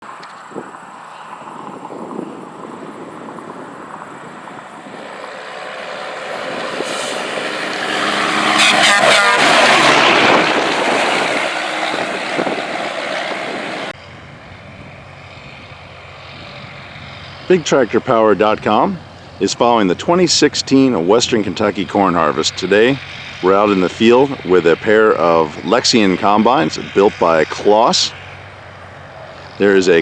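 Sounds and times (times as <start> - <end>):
combine harvester passing: 0.0 - 30.0.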